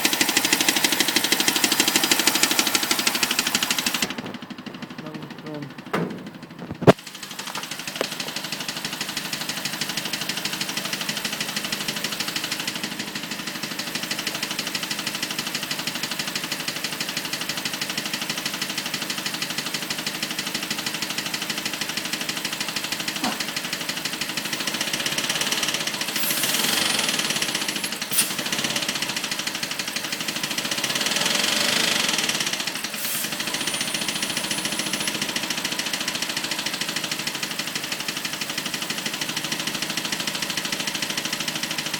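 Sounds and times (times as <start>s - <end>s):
car engine idling with clicking: 0.0s - 41.9s.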